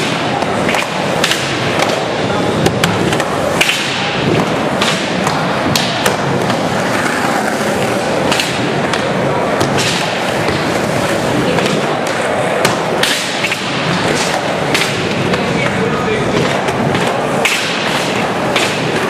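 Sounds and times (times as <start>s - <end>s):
skateboard clacks and thuds: 0.0s - 19.0s
skateboard wheels rolling on pavement: 0.0s - 19.0s.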